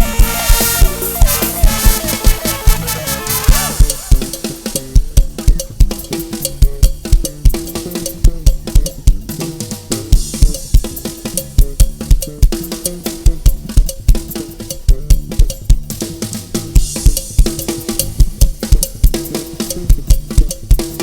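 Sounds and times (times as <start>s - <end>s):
music with fast drum beat: 0.0s - 21.0s.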